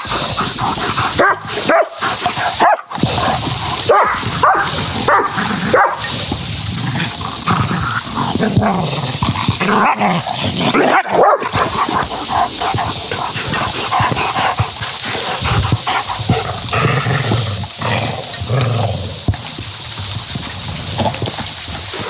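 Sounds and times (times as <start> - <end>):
dogs barking in play: 0.0 - 6.1, 7.0 - 18.9.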